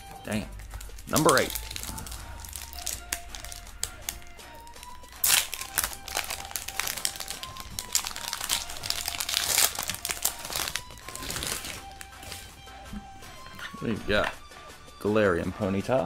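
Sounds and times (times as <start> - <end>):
foil wrapper crinkling: 0.0 - 13.2.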